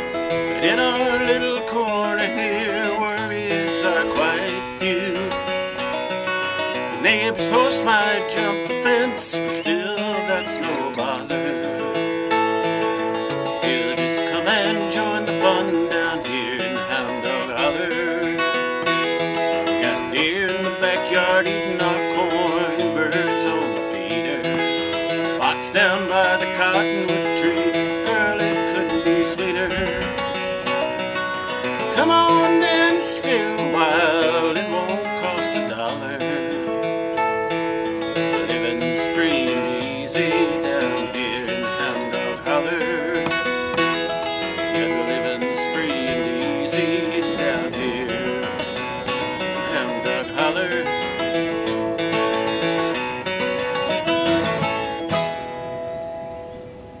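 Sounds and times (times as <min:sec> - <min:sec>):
man singing: 0:00.0 - 0:53.0
acoustic guitar playing: 0:00.0 - 0:57.0.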